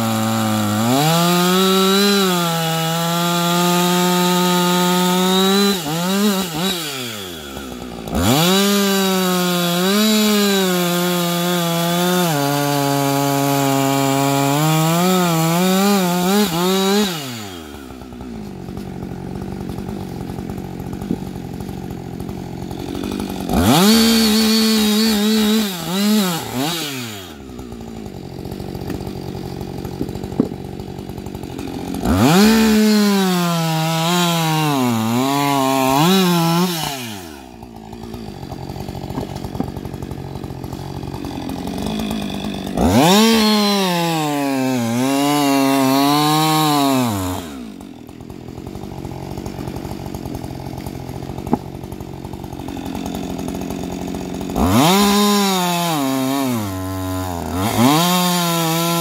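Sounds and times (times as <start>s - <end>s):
chainsaw cutting wood: 0.0s - 59.0s
chainsaw idling: 0.0s - 59.0s.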